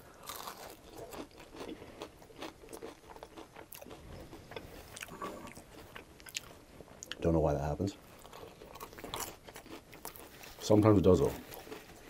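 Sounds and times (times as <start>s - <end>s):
crunchy food chewing: 0.0s - 7.2s, 8.0s - 12.0s.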